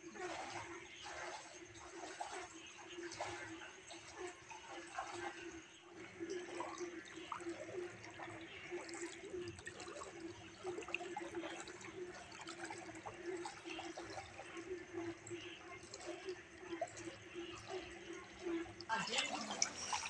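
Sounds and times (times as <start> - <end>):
floodwater sloshing and splashing: 0.0 - 20.0.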